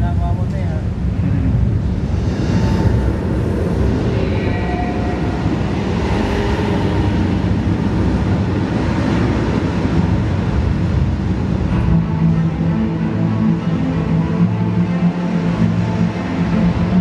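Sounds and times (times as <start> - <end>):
deep rumble over sound system: 0.0 - 17.0.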